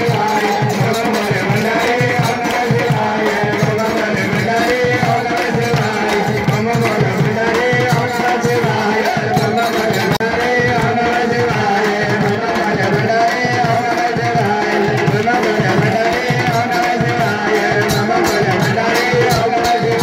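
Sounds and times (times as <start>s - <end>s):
fast hand drum beat: 0.0s - 20.0s
voices singing a chant: 0.0s - 20.0s.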